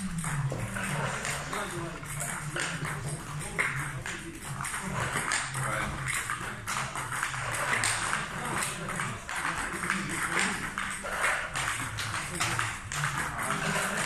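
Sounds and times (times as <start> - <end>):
table tennis ball pings: 0.0 - 14.0.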